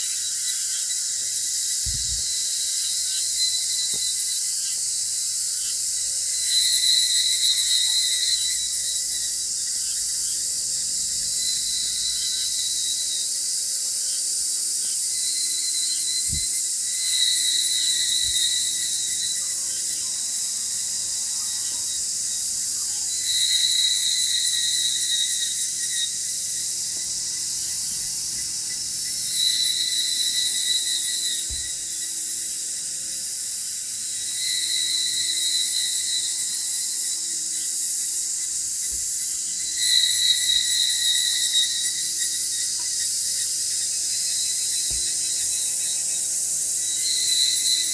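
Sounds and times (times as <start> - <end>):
insects chorus: 0.0 - 47.9
shrill insect trill: 0.0 - 47.9.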